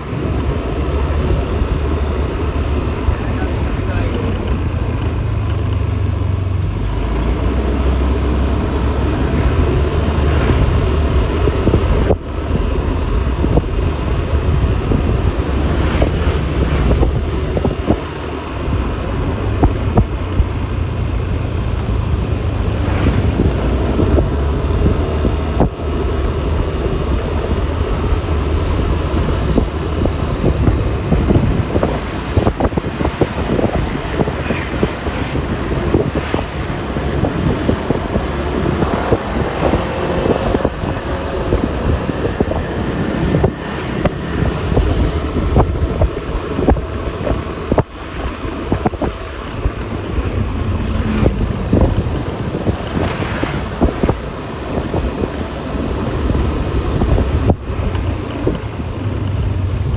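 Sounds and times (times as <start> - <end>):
road noise: 0.0 - 59.9
scooter engine running: 0.0 - 59.9
wind rushing over microphone: 0.0 - 59.9.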